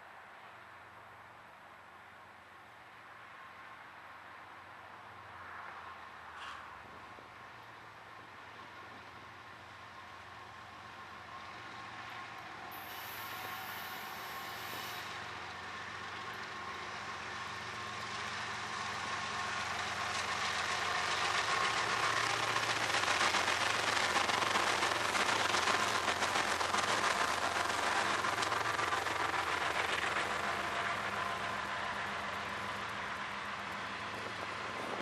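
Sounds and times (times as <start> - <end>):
diesel locomotives passing: 0.2 - 35.0
train wheels rumbling on rails: 4.2 - 35.0.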